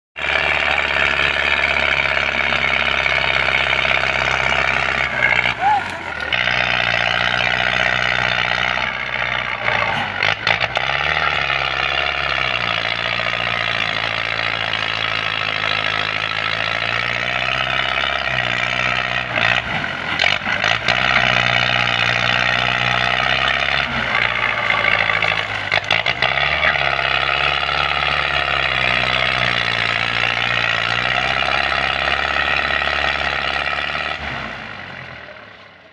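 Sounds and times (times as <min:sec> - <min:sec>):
tractor diesel engine under load: 0:00.1 - 0:35.9.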